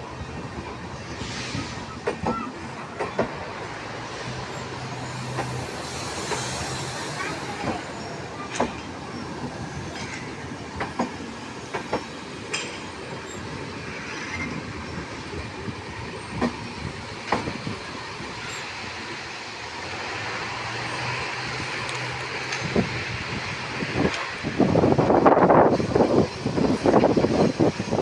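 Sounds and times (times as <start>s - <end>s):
train rumbling on track: 0.0s - 28.0s
wheels clanking over rail joints: 0.3s - 25.0s.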